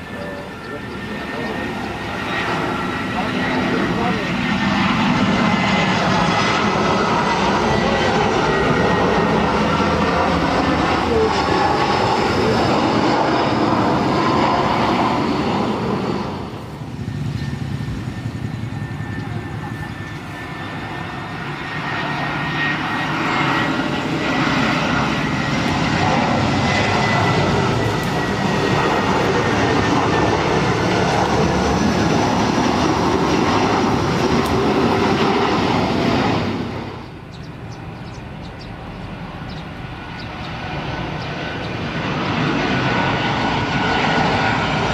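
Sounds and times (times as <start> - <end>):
jet engines whining: 0.0 - 44.9.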